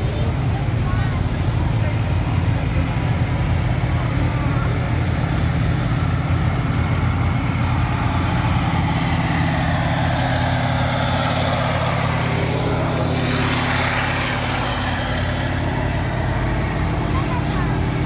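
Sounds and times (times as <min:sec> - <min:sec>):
diesel engines droning: 0:00.0 - 0:18.0
tracks rolling on road: 0:00.0 - 0:18.0.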